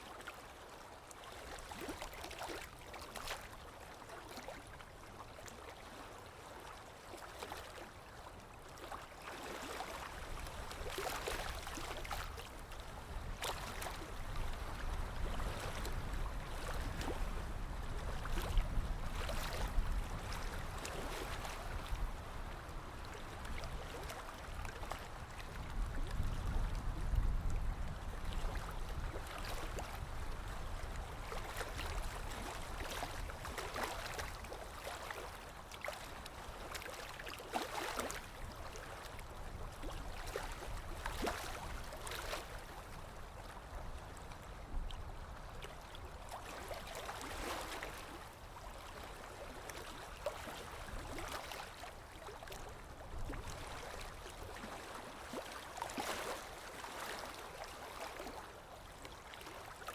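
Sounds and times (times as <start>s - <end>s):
water splashes and drips: 8.8s - 17.4s, 18.2s - 26.8s, 27.4s - 59.9s.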